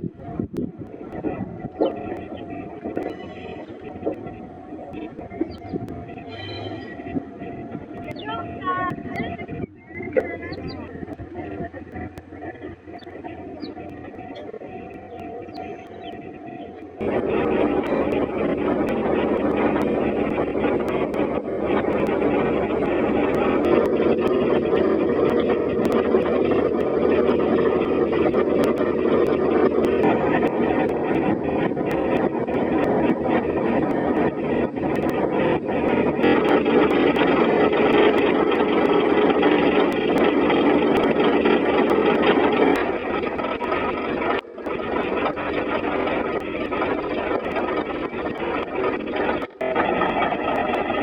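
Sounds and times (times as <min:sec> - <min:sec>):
train rumbling: 0:00.0 - 0:51.0.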